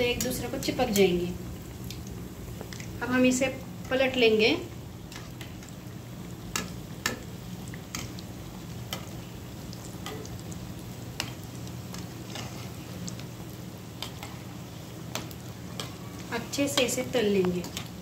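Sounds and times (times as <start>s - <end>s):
food deep-frying in oil: 0.0s - 18.0s.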